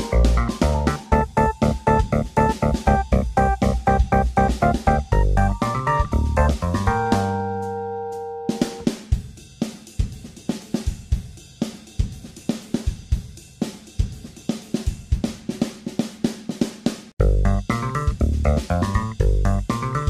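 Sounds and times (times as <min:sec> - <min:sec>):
drum kit playing steady beat: 0:00.0 - 0:20.0.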